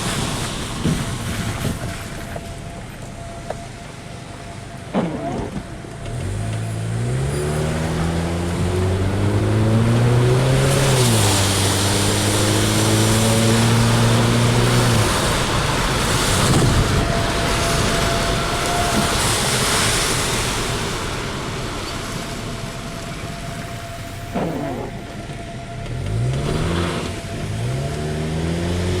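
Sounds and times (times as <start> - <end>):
road and wind noise: 0.0 - 29.0
car engine accelerating: 5.0 - 29.0.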